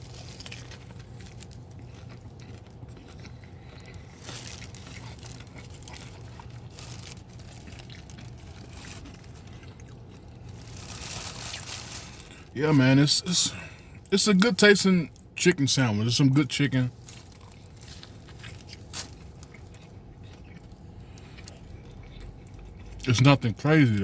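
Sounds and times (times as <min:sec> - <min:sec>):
person chewing crunchy food: 0:00.0 - 0:14.2, 0:16.9 - 0:24.0
steady low hum: 0:00.0 - 0:24.0.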